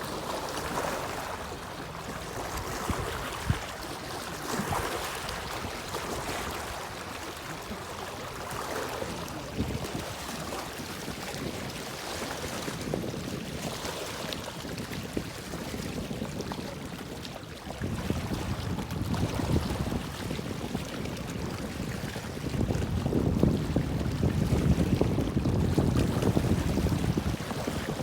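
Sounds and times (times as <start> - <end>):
water lapping and splashing: 0.0 - 28.0
wind buffeting microphone: 0.1 - 28.0.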